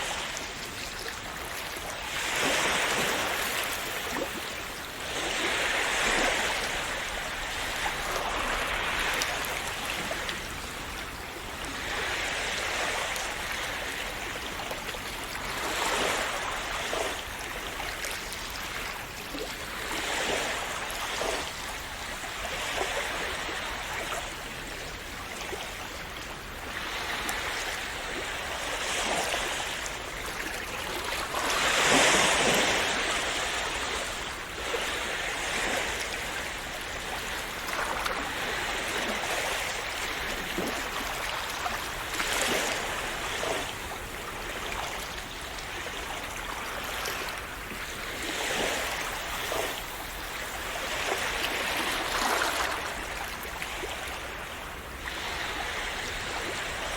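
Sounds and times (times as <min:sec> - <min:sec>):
sea waves washing onto shore: 0:00.0 - 0:56.9.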